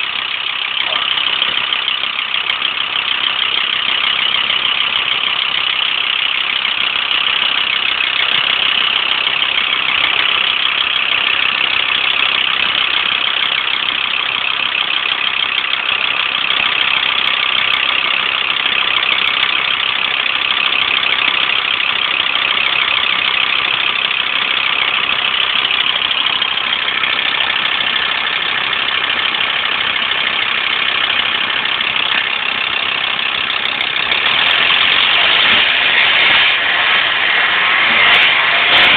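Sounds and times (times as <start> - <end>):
engine rattle: 0.0 - 38.9
van engine idling: 0.0 - 38.9.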